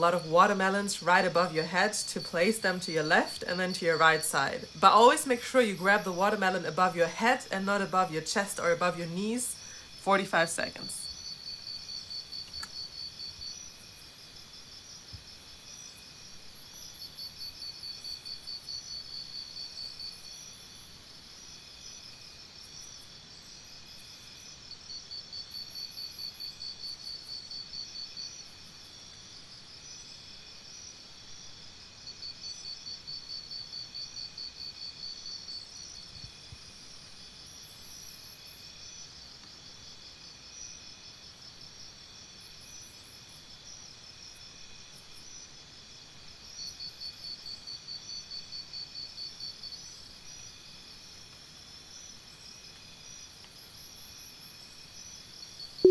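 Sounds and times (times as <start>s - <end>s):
high-pitched insect chorus: 0.0s - 55.8s
insects trilling: 0.0s - 55.9s.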